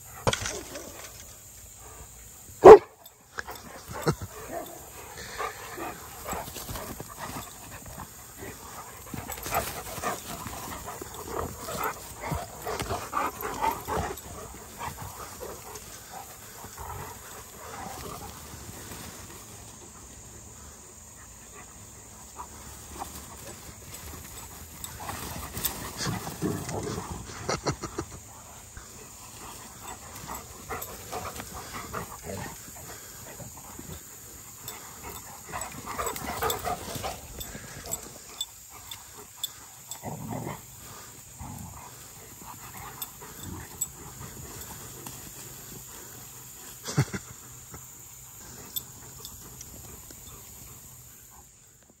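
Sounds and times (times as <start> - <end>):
faint high hiss: 0.0 - 52.0
dogs playing rough: 0.1 - 51.8.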